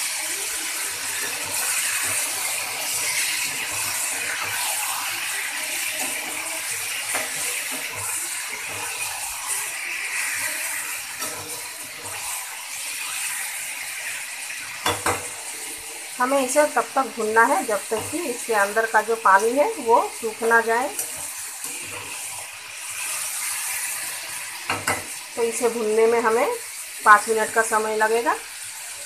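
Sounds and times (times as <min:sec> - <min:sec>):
meat sizzling in hot oil: 0:00.0 - 0:29.0.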